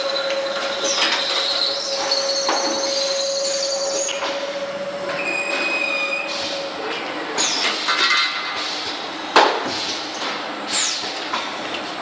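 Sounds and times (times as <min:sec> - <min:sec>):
lathe running with coolant spraying: 0:00.0 - 0:12.0.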